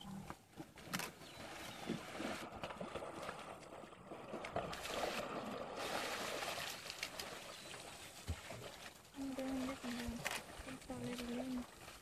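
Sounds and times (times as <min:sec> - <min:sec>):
mud and water sloshing: 0:00.0 - 0:12.0.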